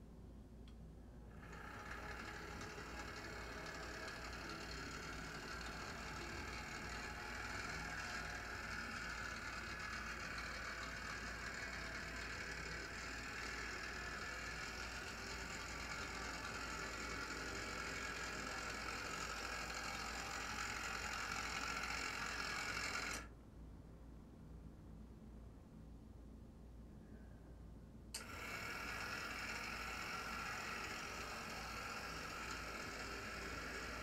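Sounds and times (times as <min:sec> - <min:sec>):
model locomotive motor whirring: 0:01.2 - 0:23.3, 0:28.2 - 0:34.0.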